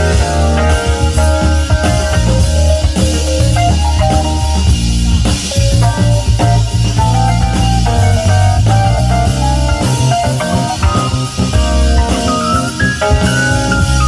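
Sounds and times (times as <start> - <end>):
drum kit: 0.0 - 14.0
electric guitar lines: 0.0 - 14.0
heavy bass: 0.0 - 14.0.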